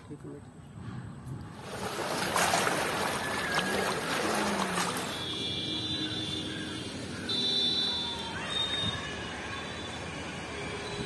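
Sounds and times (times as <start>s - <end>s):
floodwater rushing and splashing: 1.5s - 11.0s.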